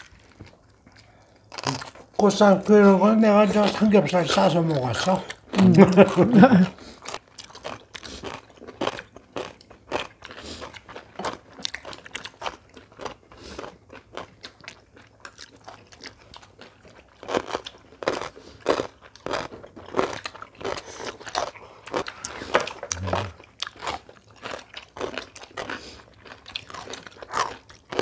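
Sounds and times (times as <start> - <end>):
people chewing crisp food: 0.0 - 28.0.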